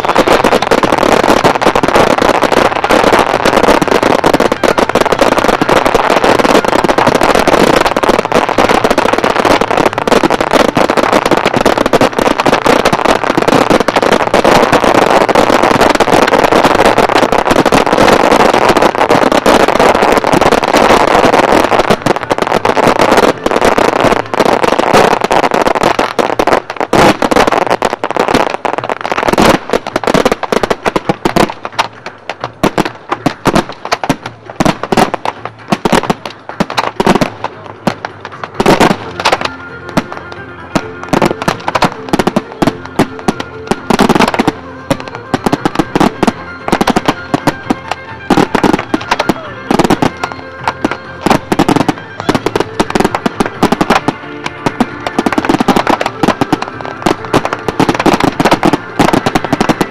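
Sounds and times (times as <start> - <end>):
fireworks pops and bangs: 0.0 - 59.9.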